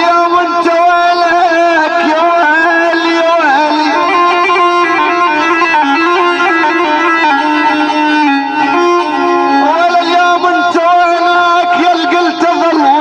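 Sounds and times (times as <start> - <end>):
electronic keyboard melody: 0.0 - 13.0.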